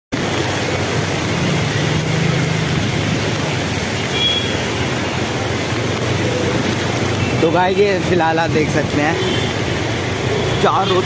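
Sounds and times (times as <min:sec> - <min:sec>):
heavy rain pouring: 0:00.1 - 0:11.0.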